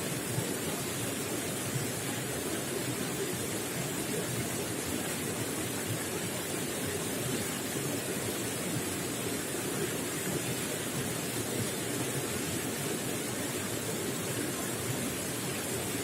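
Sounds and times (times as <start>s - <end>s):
running water gurgling: 0.0s - 16.0s.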